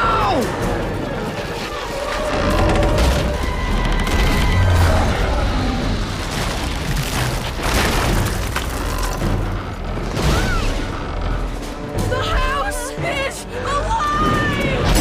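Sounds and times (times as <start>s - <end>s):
heavy rumbling with booms: 0.0s - 15.0s.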